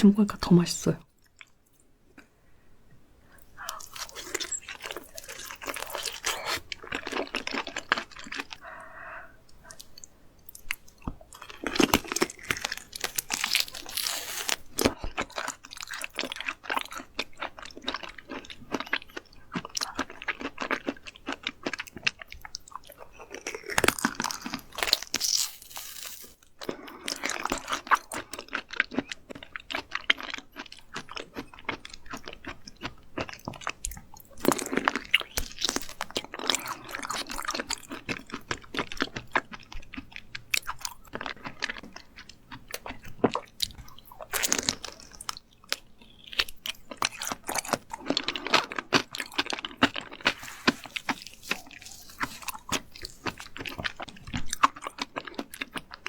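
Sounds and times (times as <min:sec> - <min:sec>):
chewing and crunching raw fish: 0:03.3 - 0:56.0.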